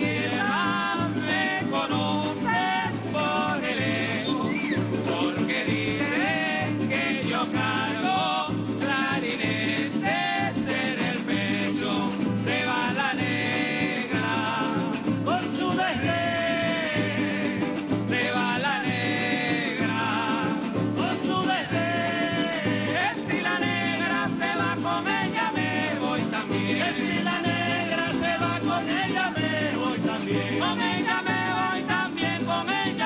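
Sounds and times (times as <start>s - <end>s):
hand drum beat: 0.0s - 33.0s
strummed guitars: 0.0s - 33.0s.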